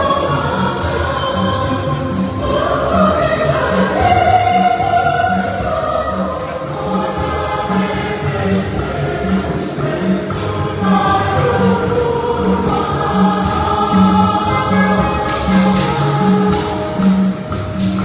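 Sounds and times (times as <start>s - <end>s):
choir singing a hymn: 0.0s - 18.0s.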